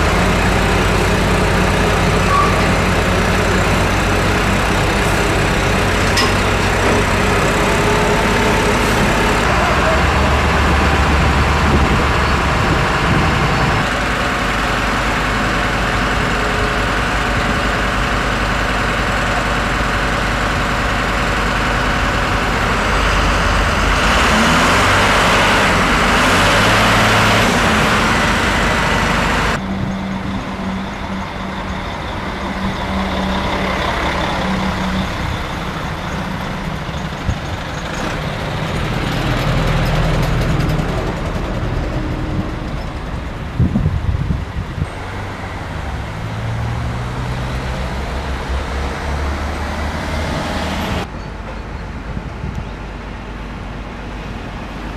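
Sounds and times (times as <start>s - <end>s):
heavy vehicle engines idling: 0.0s - 54.9s
road traffic: 0.0s - 54.9s.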